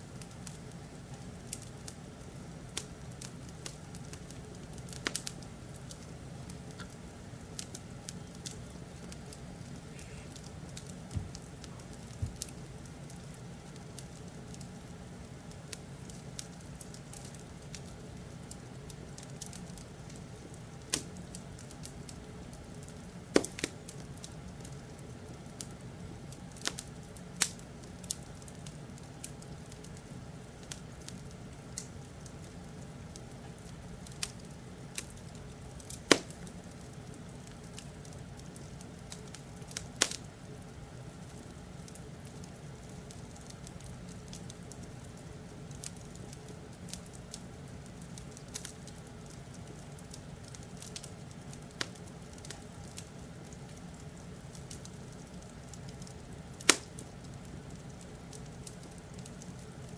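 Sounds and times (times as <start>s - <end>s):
low fire rumble: 0.0s - 59.9s
wood fire pops and snaps: 0.1s - 40.4s, 41.2s - 59.9s.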